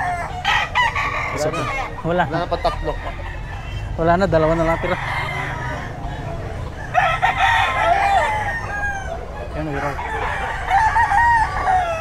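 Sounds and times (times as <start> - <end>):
rooster crowing: 0.0 - 12.0.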